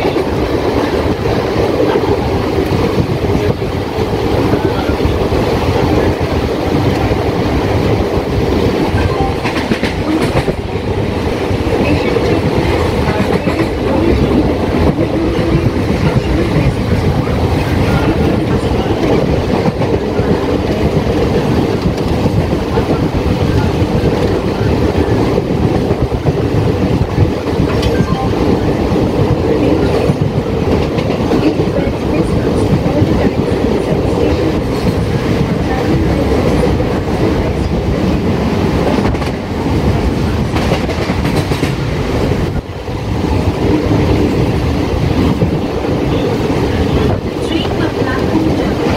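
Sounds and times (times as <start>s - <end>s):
train wheels rumbling on track: 0.0s - 48.9s.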